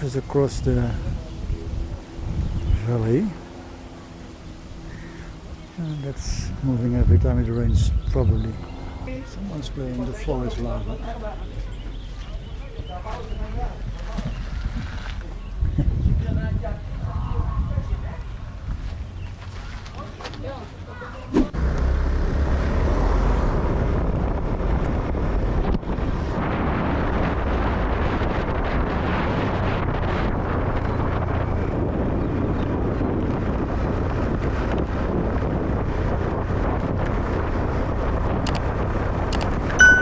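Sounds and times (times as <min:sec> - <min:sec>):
wind rushing over microphone: 0:00.0 - 0:21.6, 0:22.3 - 0:40.0.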